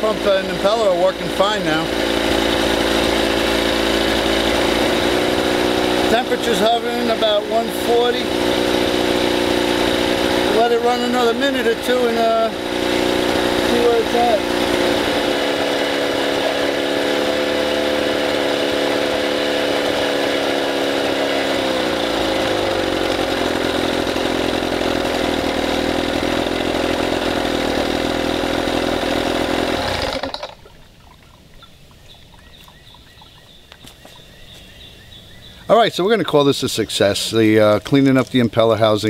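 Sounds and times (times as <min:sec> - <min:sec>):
outboard motor running: 0:00.0 - 0:39.0.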